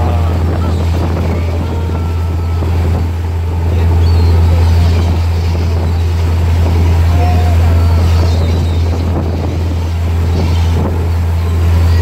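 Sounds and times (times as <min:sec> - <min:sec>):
boat engine droning: 0:00.0 - 0:12.0
faint gull cries: 0:00.0 - 0:12.0
wake water rushing: 0:00.0 - 0:12.0
wind on microphone: 0:00.0 - 0:12.0.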